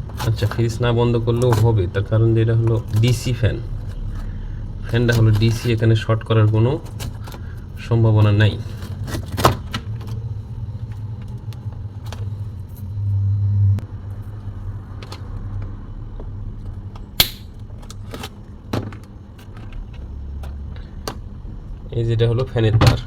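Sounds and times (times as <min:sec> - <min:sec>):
refrigerator humming: 0:00.0 - 0:23.0.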